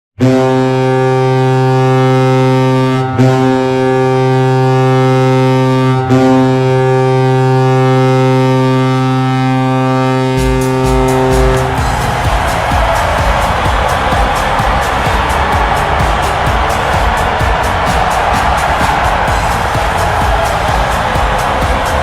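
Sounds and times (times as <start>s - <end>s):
low-pitched air horn blasts: 0.2s - 22.0s.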